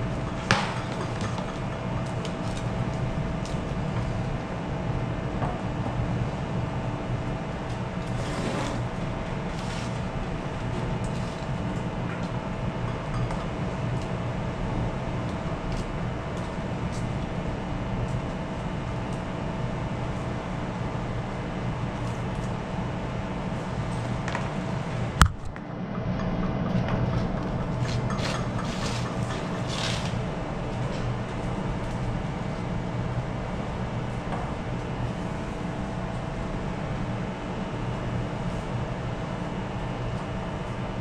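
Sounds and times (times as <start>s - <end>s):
ship machinery drone: 0.0s - 41.0s.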